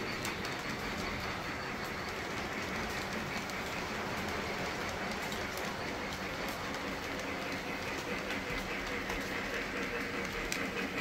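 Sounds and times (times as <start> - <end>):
model train wheels on rail: 0.0 - 11.0.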